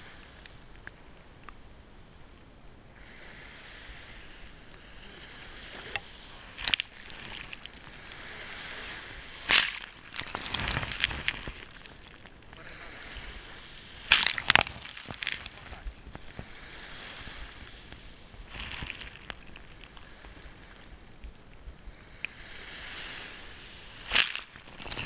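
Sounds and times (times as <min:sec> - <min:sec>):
surf fizzing on beach: 0:03.0 - 0:21.1, 0:21.9 - 0:25.0
waves splashing: 0:03.0 - 0:25.0.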